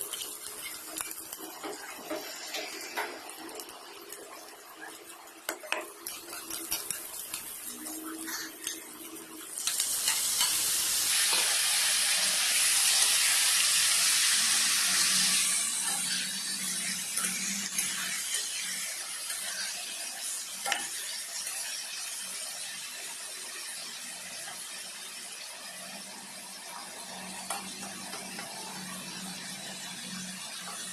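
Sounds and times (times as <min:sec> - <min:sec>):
meat sizzling in a wok: 0:00.0 - 0:30.9.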